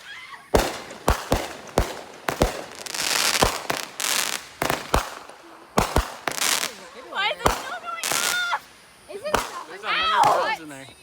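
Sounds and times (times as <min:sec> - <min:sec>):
fireworks bangs: 0:00.0 - 0:10.7
crackling hiss: 0:00.0 - 0:11.0.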